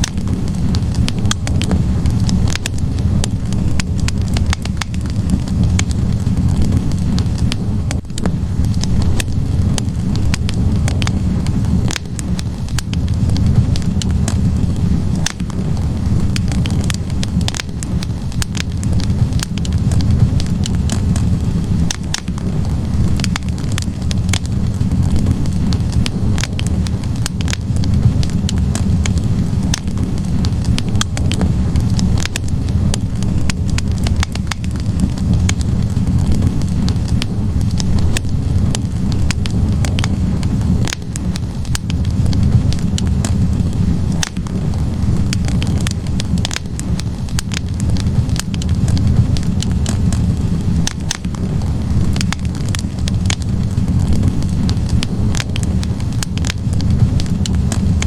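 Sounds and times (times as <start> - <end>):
fire flames rumbling: 0.0 - 58.0
logs popping and crackling: 0.0 - 58.0.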